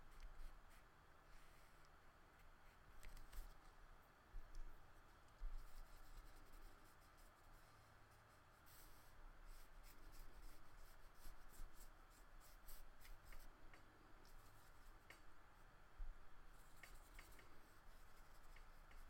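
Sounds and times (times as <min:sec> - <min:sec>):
paintbrush strokes on paper: 0:00.0 - 0:19.0.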